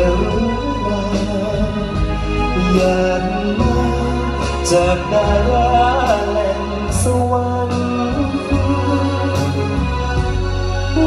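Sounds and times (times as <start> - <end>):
man singing into a microphone: 0.0 - 10.2
band playing: 0.0 - 11.0.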